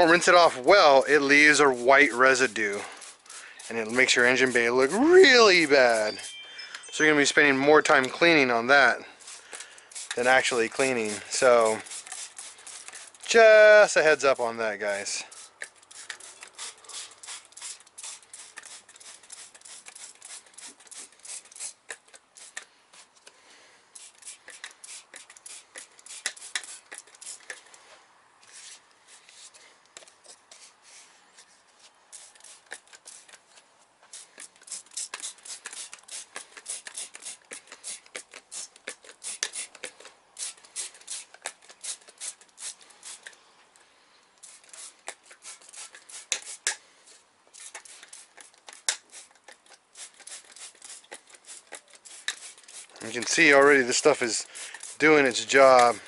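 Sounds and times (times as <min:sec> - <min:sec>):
spray bottle squirting: 0:00.0 - 0:08.5, 0:09.2 - 0:23.3, 0:23.9 - 0:27.8, 0:28.4 - 0:31.0, 0:32.1 - 0:43.4, 0:44.4 - 0:56.0.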